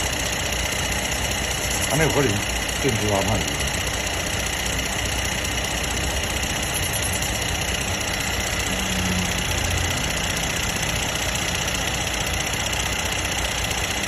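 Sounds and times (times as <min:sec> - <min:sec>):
steady high whine: 0:00.0 - 0:13.9
car engine idling: 0:00.0 - 0:14.0.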